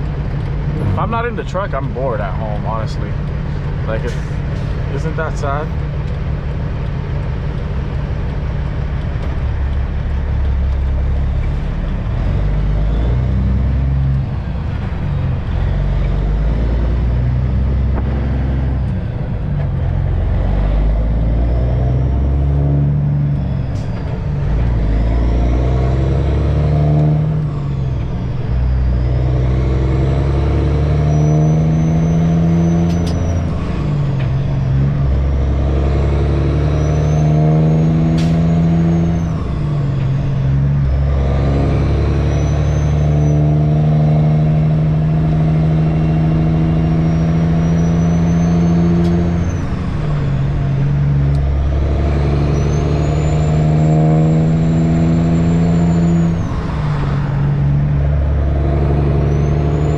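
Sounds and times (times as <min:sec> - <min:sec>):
truck diesel engine running: 0:00.0 - 0:43.0, 0:43.6 - 0:59.9.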